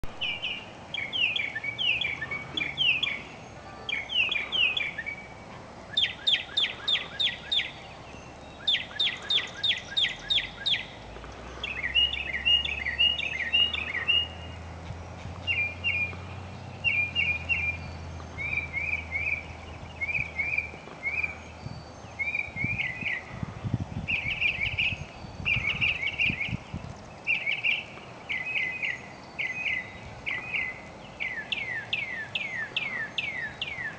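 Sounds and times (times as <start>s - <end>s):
mockingbird singing: 0.0s - 33.9s.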